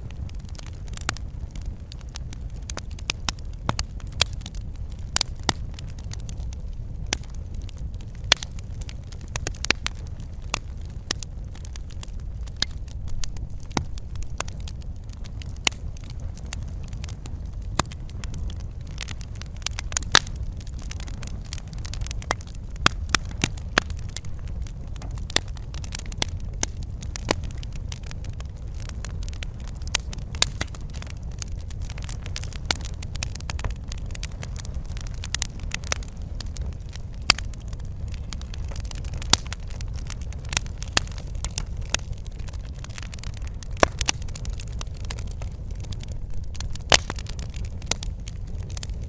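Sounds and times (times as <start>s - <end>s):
fire flames rumbling: 0.0s - 49.0s
fire pops and snaps: 0.0s - 49.0s.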